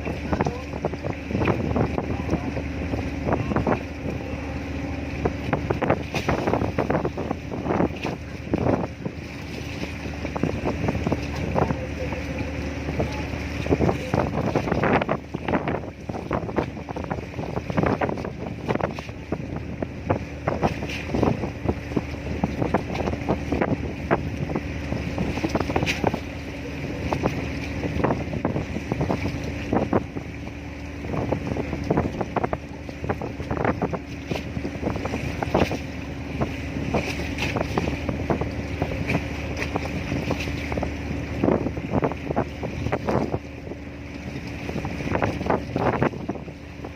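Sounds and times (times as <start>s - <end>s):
ship engine drone: 0.0s - 46.9s
wind buffeting microphone: 0.0s - 46.9s.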